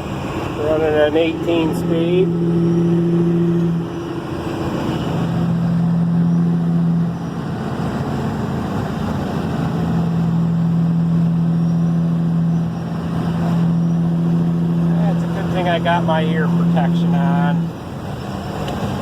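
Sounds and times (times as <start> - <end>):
truck diesel engine drone: 0.0 - 19.0.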